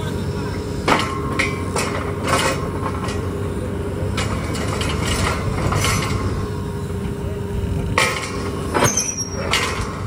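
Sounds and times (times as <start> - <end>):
drilling rig engine running: 0.0 - 10.0.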